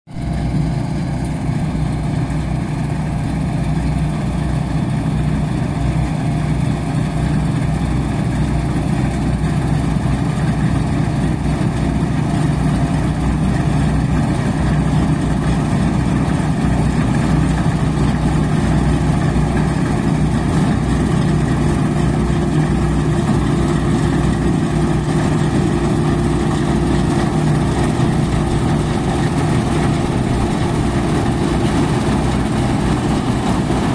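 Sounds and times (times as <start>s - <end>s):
combine harvester engine droning: 0.1s - 33.9s.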